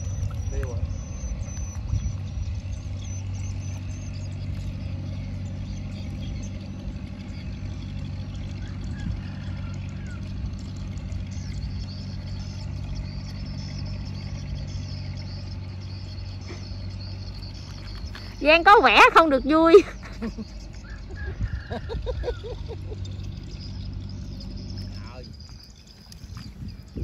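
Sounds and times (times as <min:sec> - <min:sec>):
small engine droning: 0:00.0 - 0:27.0.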